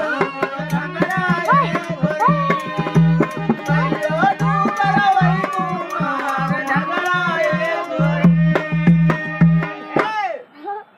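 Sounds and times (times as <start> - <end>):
hand drum rhythm: 0.0 - 10.2
men singing: 0.0 - 10.4
harmonium notes: 0.0 - 10.9.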